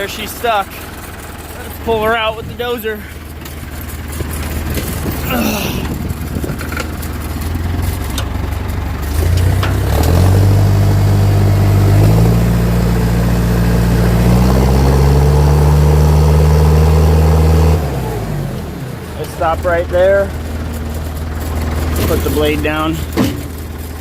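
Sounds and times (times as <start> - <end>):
bulldozer diesel engine revving: 0.0 - 24.0.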